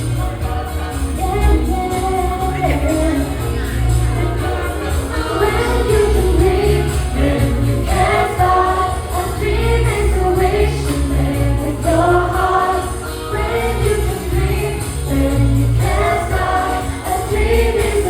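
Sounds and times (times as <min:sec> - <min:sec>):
choir singing in harmony: 0:00.0 - 0:18.0
instrumental accompaniment: 0:00.0 - 0:18.0.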